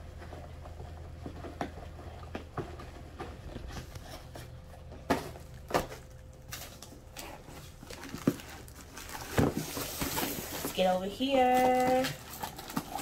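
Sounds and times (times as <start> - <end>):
cardboard rustling: 0.0 - 13.0
low room hum: 0.0 - 13.0.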